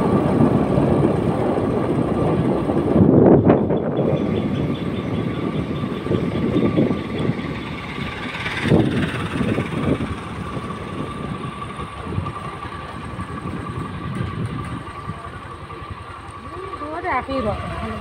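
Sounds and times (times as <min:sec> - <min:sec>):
motorcycle engine running: 0:00.0 - 0:18.0
wind rumble on microphone: 0:00.0 - 0:18.0.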